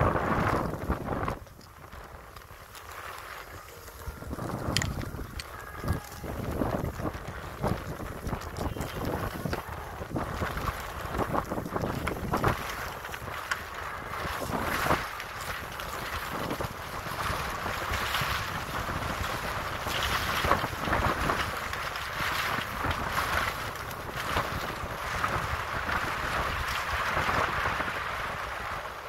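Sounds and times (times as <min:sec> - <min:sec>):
skis scraping over snow: 0:00.0 - 0:29.0
wind rushing over microphone: 0:00.0 - 0:29.0.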